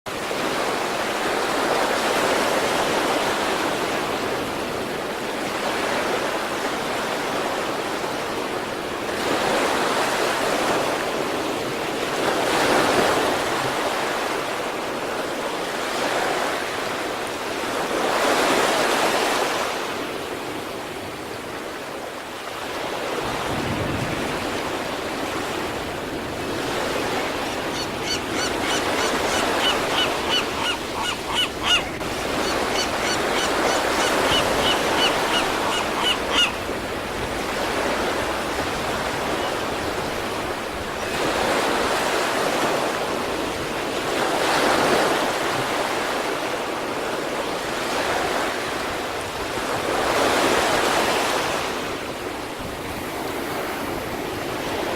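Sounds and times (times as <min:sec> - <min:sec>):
waves breaking on shore: 0:00.1 - 0:54.9.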